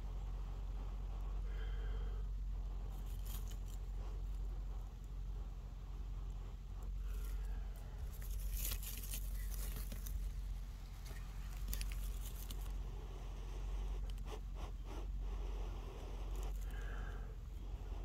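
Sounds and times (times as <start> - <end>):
dry wood shavings rustling: 2.8 - 18.0.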